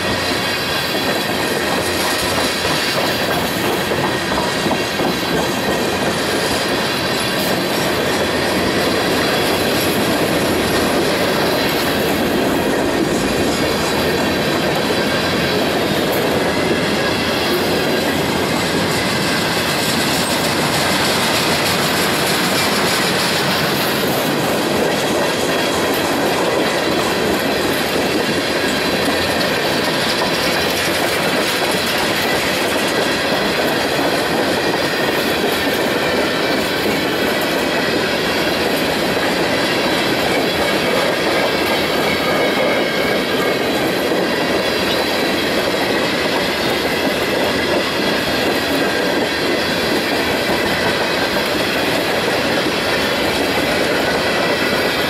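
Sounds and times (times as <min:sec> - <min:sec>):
train wheels running on rails: 0:00.0 - 0:55.0.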